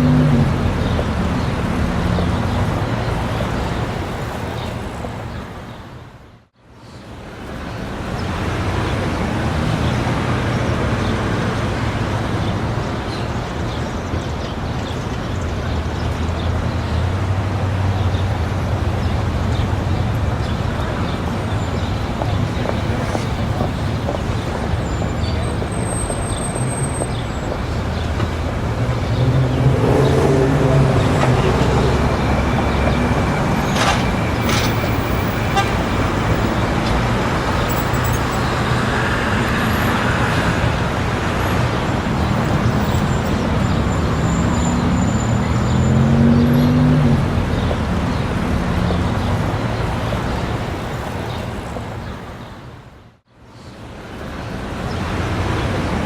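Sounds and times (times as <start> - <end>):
murmur of street crowd: 0.0 - 56.0
traffic with vehicles passing: 0.0 - 56.0.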